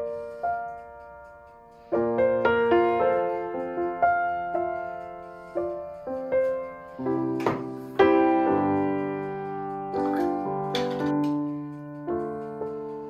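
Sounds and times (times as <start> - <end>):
slow solo piano: 2.0 - 13.0.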